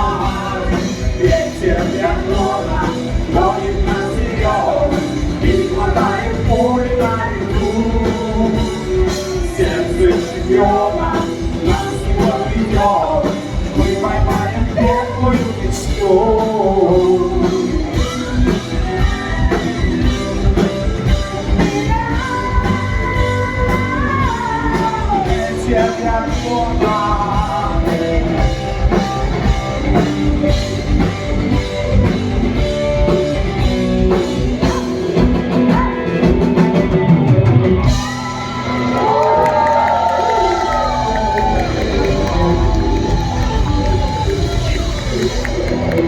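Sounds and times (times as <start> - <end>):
rock band playing: 0.0 - 46.0.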